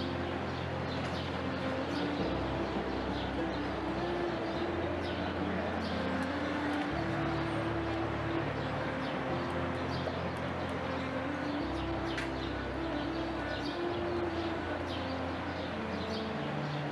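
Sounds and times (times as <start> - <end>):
low pitch-shifting drone: 0.0 - 16.9.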